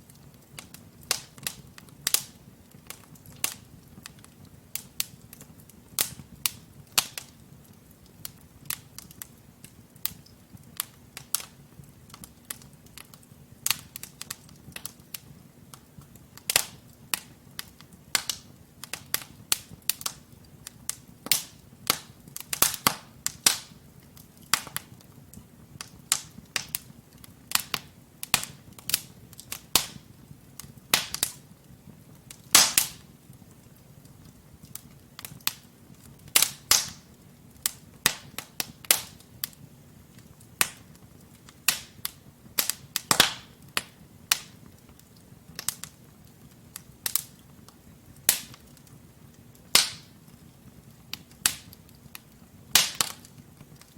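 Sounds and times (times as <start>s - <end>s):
low hiss of flames: 0.0s - 53.9s
wood fire crackling and popping: 0.0s - 53.9s.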